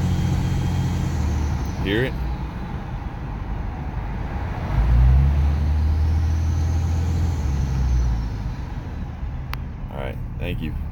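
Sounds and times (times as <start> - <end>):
diesel engine deep drone: 0.0 - 10.9.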